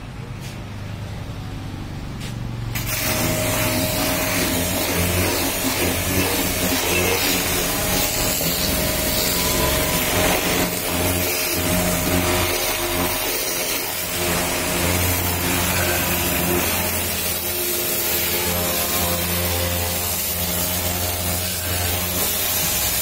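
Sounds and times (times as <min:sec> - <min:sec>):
pressure washer humming: 0:02.1 - 0:23.0
water jet spraying on metal: 0:02.7 - 0:23.0.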